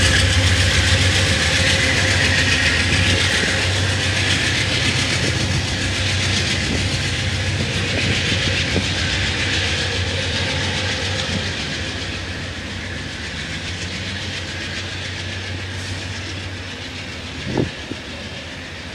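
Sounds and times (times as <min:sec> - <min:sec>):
diesel locomotive engine drone: 0:00.0 - 0:18.9
train wheel and rail noise: 0:00.0 - 0:18.9.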